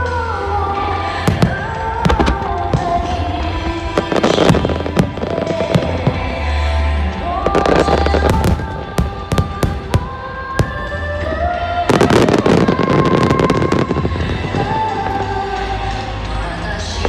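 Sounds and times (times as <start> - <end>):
dense firework crackling: 1.3 - 16.3.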